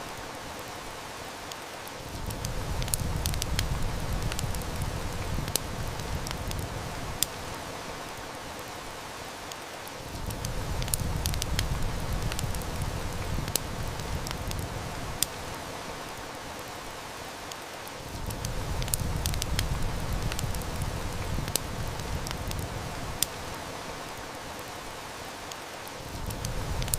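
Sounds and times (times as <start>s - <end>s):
heavy rain falling: 0.0s - 26.9s
wood fire crackling: 0.0s - 26.9s.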